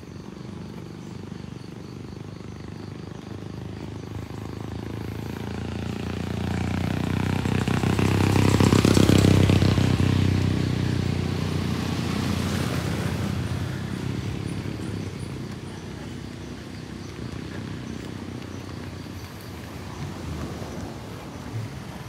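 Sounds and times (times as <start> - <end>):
motorcycle passing by: 0.0 - 22.0.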